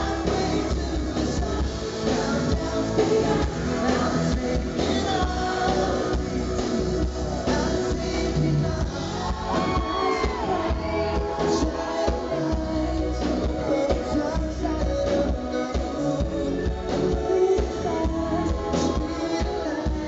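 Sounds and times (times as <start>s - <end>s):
backing singer: 0.0s - 20.0s
band playing pop music: 0.0s - 20.0s
man singing into a microphone: 0.0s - 20.0s.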